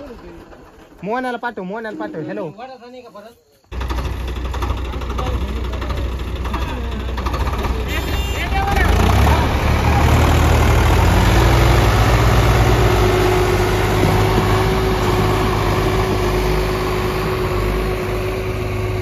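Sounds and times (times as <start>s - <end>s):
tractor diesel engine rumble: 0.0s - 2.3s, 3.7s - 19.0s.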